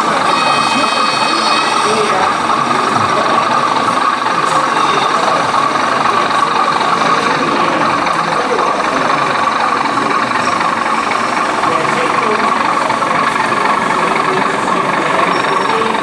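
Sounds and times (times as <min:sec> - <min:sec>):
diesel engine idling: 0:00.0 - 0:16.0
murmur of people talking: 0:00.0 - 0:16.0.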